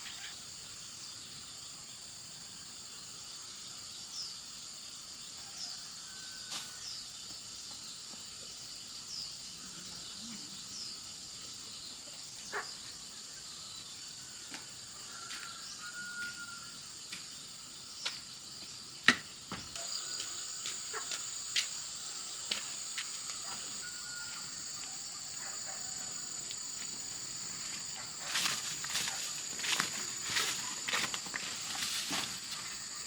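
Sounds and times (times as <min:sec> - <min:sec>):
higher-pitched insect: 0:00.0 - 0:33.0
insects chirring: 0:00.0 - 0:33.0.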